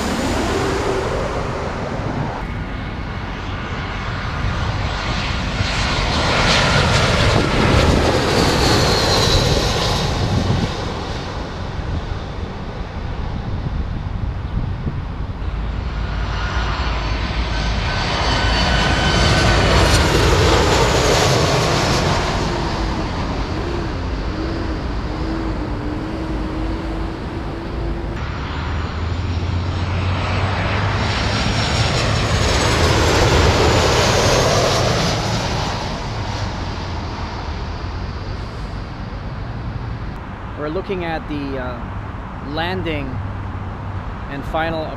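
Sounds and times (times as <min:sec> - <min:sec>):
faint engine whine: 0:00.0 - 0:44.9
jet airliners passing overhead: 0:00.0 - 0:44.9.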